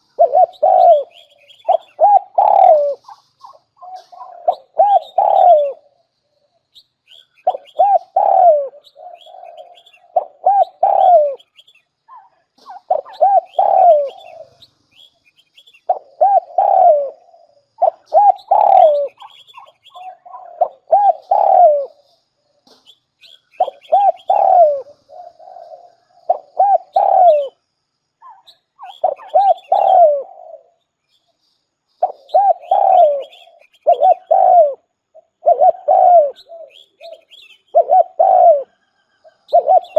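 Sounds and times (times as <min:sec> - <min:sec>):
dove cooing: 0:00.0 - 0:06.0, 0:07.4 - 0:14.7, 0:15.9 - 0:22.1, 0:22.7 - 0:27.6, 0:28.2 - 0:30.8, 0:32.0 - 0:39.9.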